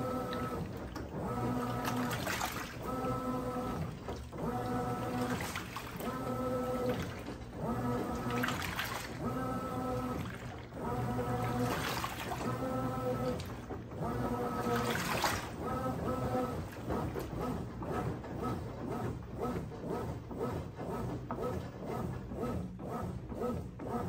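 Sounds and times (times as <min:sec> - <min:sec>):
washing machine motor humming: 0:00.0 - 0:24.0
water and laundry churning: 0:00.0 - 0:24.0.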